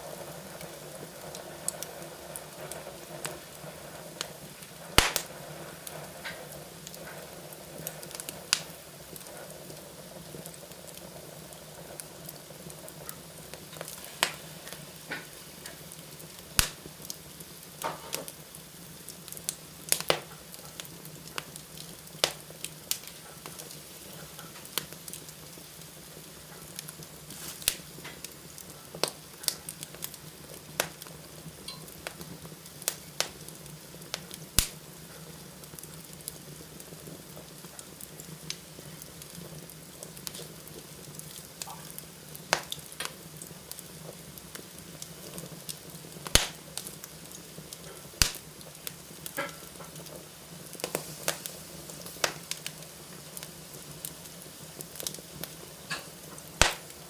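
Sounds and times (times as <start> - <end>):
fire crackling and popping: 0.0 - 57.0
fire hissing: 0.0 - 57.0.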